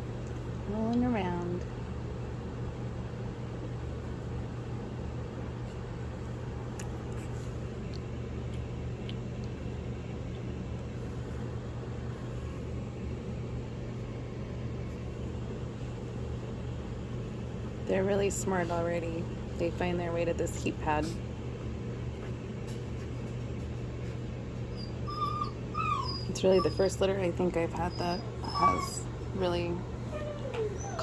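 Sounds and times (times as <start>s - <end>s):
low mechanical hum of appliance: 0.0s - 31.0s.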